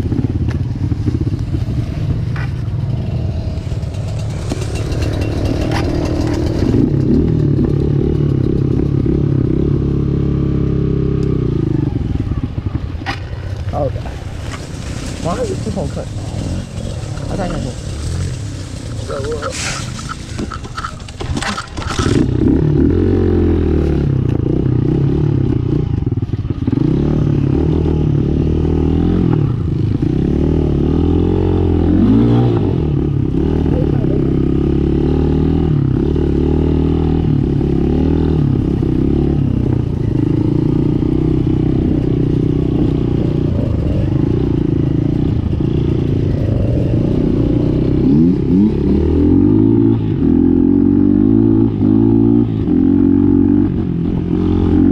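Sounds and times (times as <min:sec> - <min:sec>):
dirt bike engine revving: 0:02.8 - 0:12.0, 0:13.8 - 0:25.9, 0:26.6 - 0:54.9.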